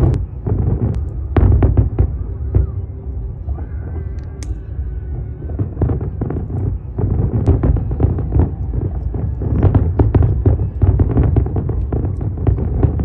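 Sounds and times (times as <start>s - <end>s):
distant fireworks booming: 0.0s - 13.0s.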